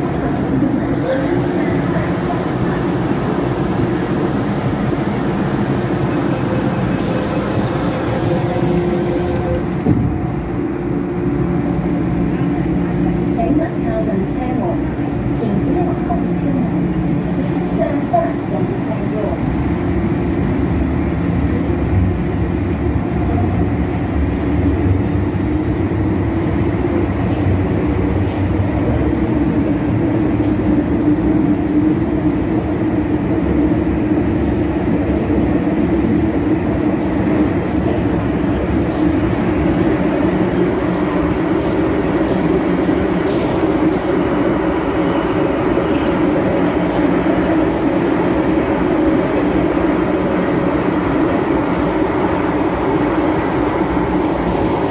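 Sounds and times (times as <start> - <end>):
train rumble and hum: 0.0 - 54.9.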